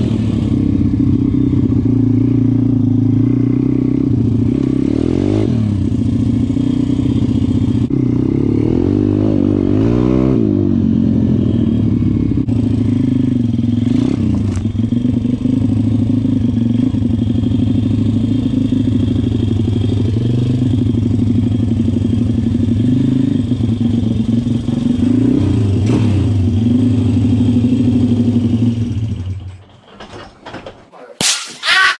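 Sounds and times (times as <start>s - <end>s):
motorbike engine running at low revs: 0.0s - 29.6s.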